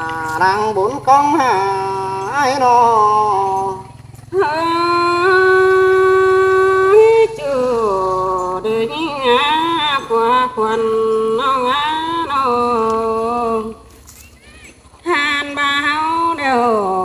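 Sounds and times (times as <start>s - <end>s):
person singing folk song: 0.0s - 17.0s.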